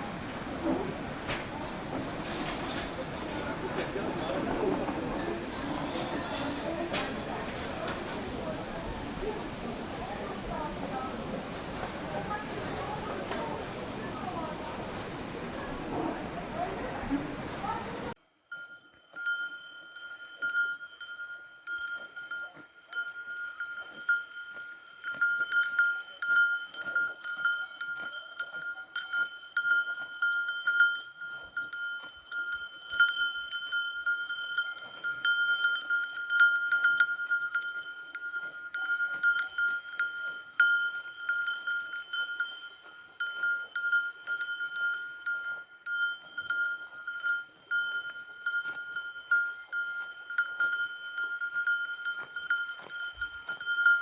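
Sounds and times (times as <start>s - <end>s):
livestock bells clanking: 0.0s - 54.0s.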